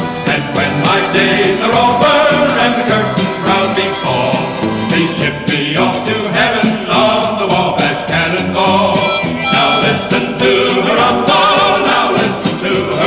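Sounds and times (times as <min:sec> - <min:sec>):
group singing country song: 0:00.0 - 0:13.0
instrumental backing: 0:00.0 - 0:13.0.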